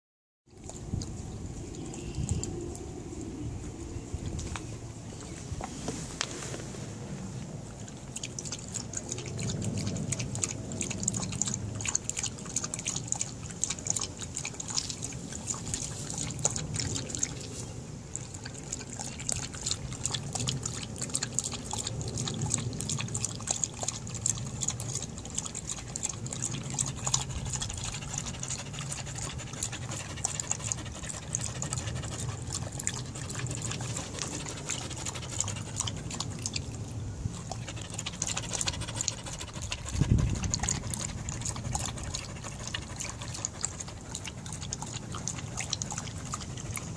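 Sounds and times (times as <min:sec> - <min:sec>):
dog lapping water: 0:00.5 - 0:03.2, 0:07.5 - 0:46.9.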